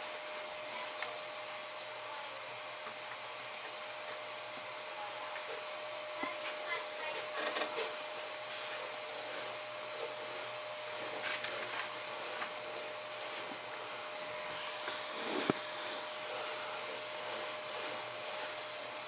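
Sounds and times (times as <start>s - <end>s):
computer fans whirring: 0.0s - 19.0s
steady whine: 0.0s - 19.0s.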